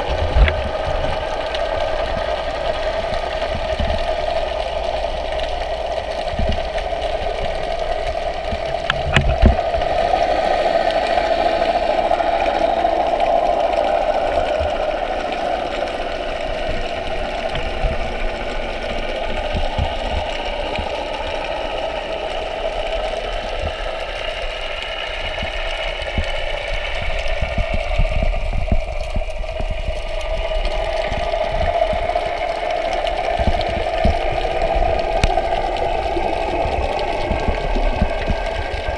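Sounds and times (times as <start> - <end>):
underwater mechanical drone: 0.0 - 38.9.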